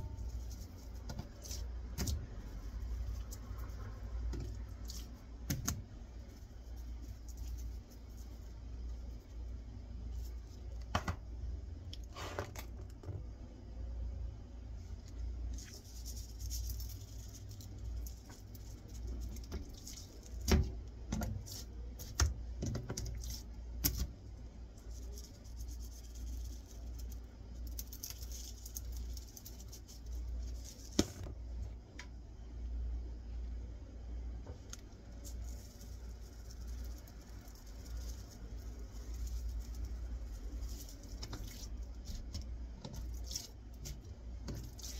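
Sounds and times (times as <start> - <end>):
seasoning rustling: 0.0 - 10.8, 14.8 - 22.2, 22.9 - 31.3, 34.6 - 44.9
steady low hum: 0.0 - 44.9.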